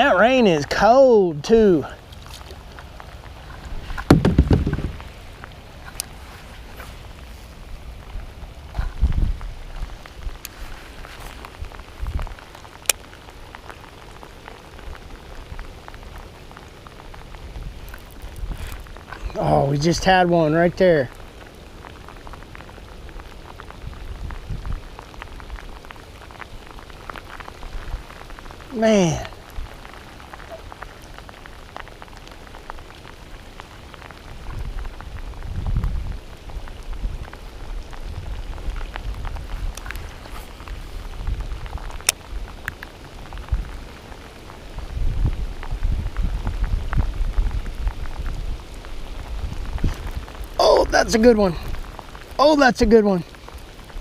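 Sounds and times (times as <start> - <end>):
heavy rain on water: 0.0 - 54.0.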